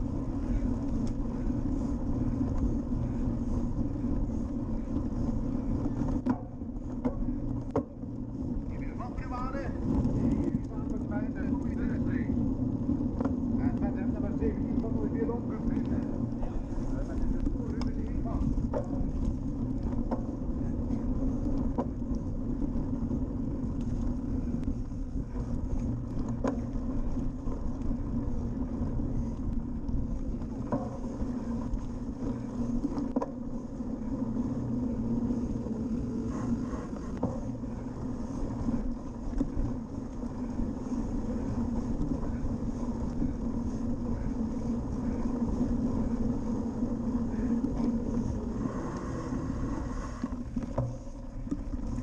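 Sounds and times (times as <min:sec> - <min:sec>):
bike tyres rumbling on dirt: 0:00.0 - 0:52.0
wind: 0:00.0 - 0:52.0.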